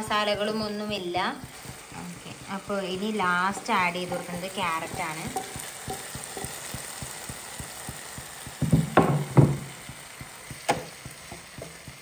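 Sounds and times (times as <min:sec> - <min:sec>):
food sizzling in a frying pan: 0:00.0 - 0:12.0
spatula knocking and scraping pan: 0:00.0 - 0:12.0.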